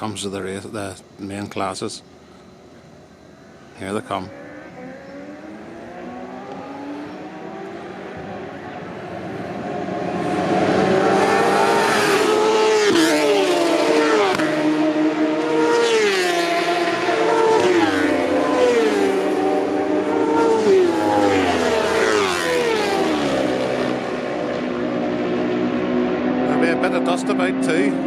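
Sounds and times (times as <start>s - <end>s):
racing motorcycles passing: 3.4s - 28.0s.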